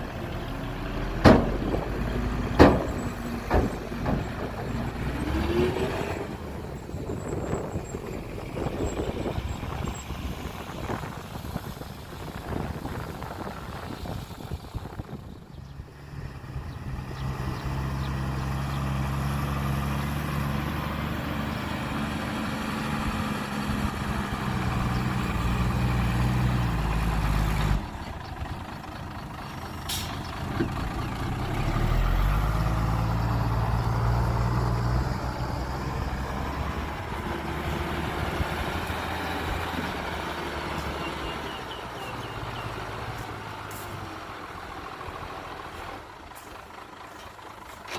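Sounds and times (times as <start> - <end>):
heavy truck engine revving: 0.0 - 47.9.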